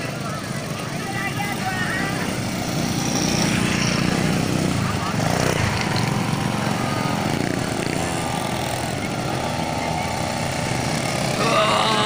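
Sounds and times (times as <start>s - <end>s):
small engines droning: 0.0s - 12.0s.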